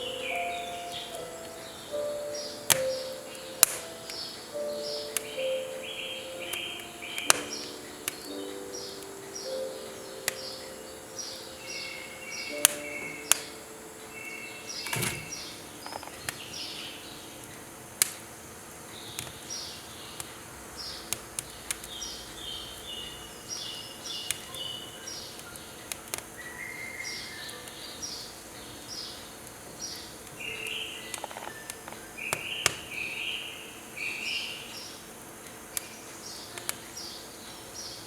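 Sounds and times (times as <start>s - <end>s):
small birds chirping: 0.0s - 38.0s
firewood crackling and popping: 0.1s - 26.4s, 27.1s - 33.2s.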